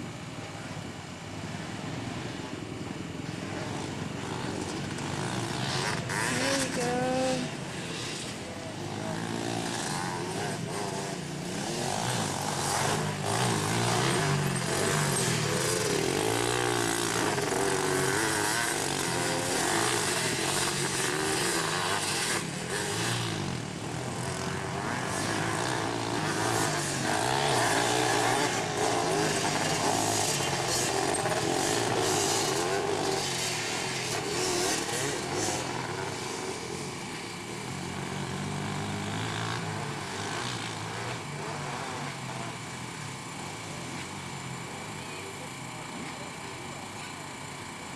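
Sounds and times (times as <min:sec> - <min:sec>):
racing engines revving: 0:03.2 - 0:46.1.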